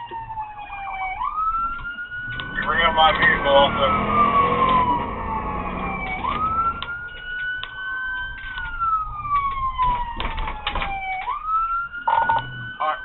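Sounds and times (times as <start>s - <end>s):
police siren wailing: 0.0s - 13.0s.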